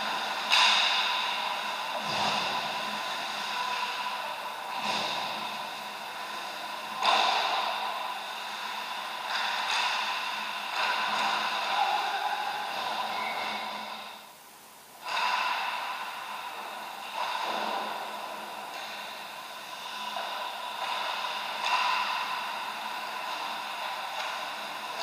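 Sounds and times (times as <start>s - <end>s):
steady tonal hum: 0.0s - 25.0s.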